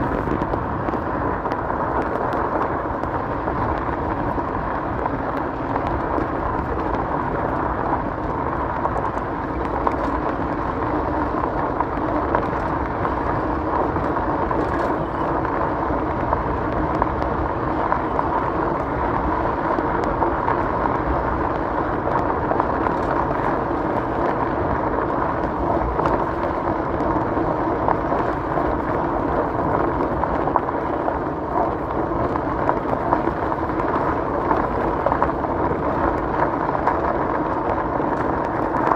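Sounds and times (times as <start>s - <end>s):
bike tyres rolling on gravel: 0.0s - 38.9s
wind rumble on microphone: 0.0s - 38.9s.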